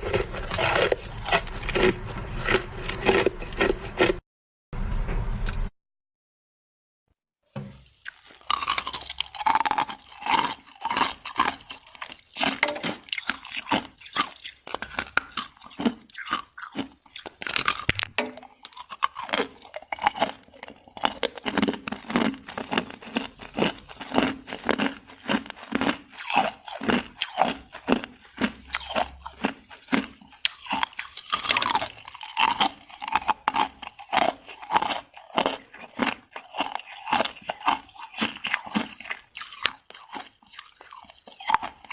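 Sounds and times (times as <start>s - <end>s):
ice being chewed: 0.0s - 4.2s, 8.0s - 41.9s.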